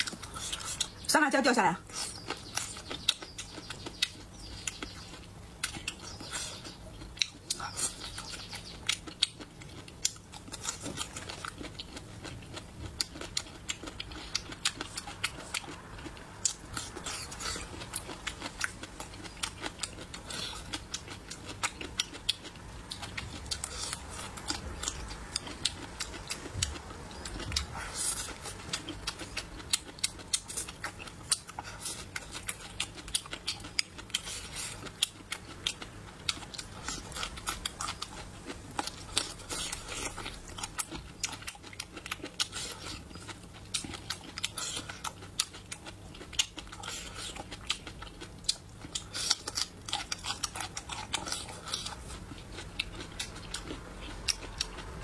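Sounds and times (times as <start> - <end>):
biting and chewing: 0.0 - 1.1, 1.8 - 55.0.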